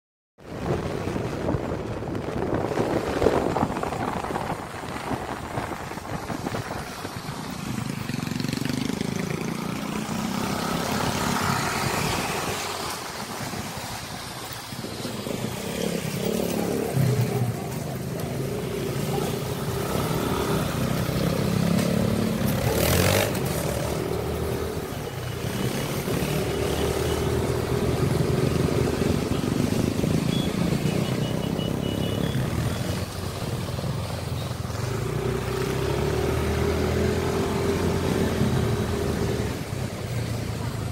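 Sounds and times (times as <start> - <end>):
rushing wind: 0.4 - 40.9
motorcycle engine revving: 2.7 - 14.2, 14.9 - 40.8.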